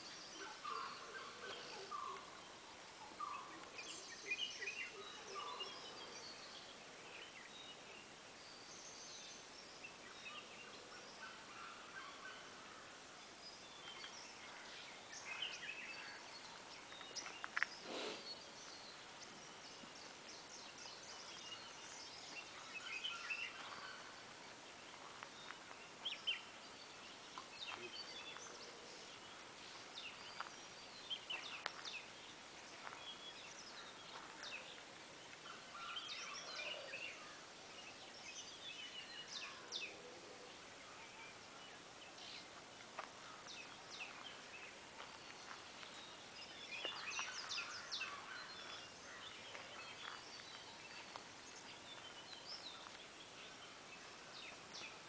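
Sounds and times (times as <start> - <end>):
small birds chirping and calling: 0.0 - 55.0.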